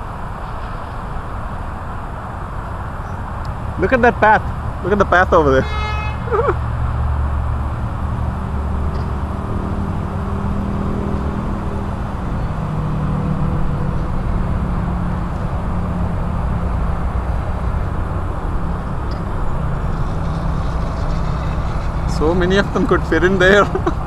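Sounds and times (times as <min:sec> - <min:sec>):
cars passing: 0:00.0 - 0:24.0
close engine hum: 0:00.0 - 0:24.0.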